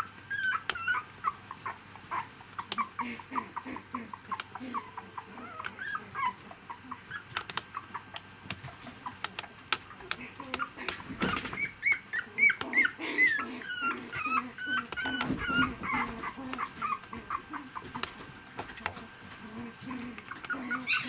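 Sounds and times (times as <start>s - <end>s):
puppy whimpering: 0.0s - 18.2s, 18.8s - 21.0s.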